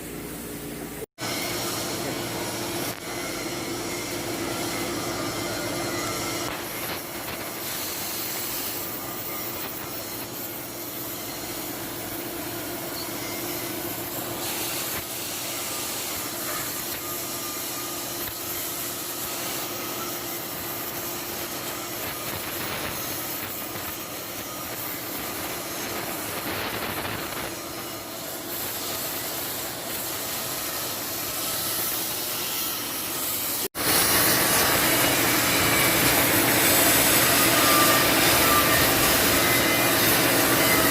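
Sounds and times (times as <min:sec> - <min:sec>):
cutting torch hissing: 0:01.2 - 0:40.9.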